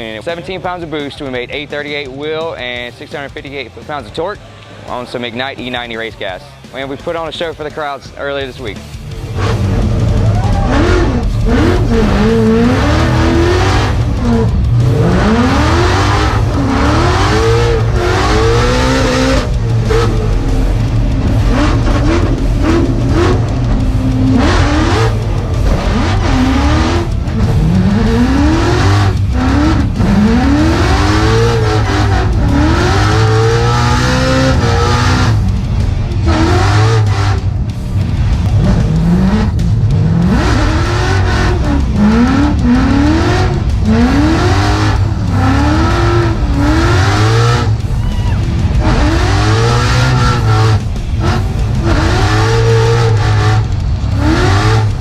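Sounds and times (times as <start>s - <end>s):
car engine revving: 0.0s - 55.0s
music: 0.0s - 55.0s.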